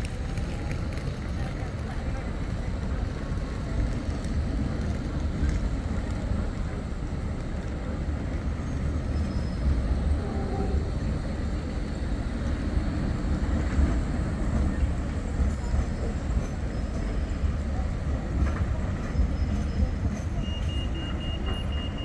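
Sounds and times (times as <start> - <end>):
tram rolling past: 0.0 - 22.0.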